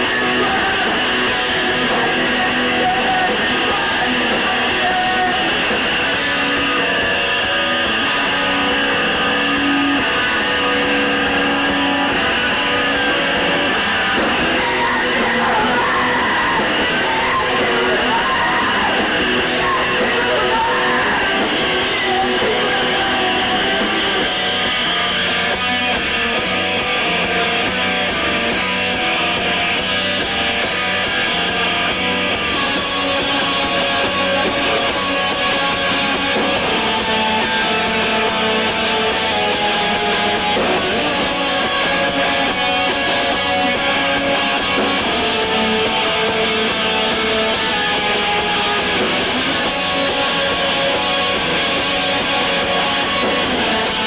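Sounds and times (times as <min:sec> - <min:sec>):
electric guitars strummed loudly: 0:00.0 - 0:54.0.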